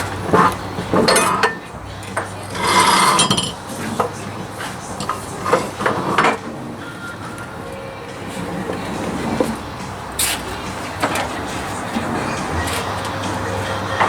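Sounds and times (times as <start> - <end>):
hand tools clinking on metal: 0.0 - 14.0.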